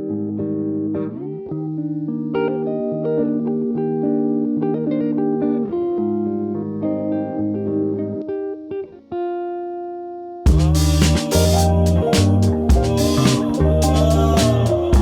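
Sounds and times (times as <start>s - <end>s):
plucked guitar: 0.0s - 15.0s.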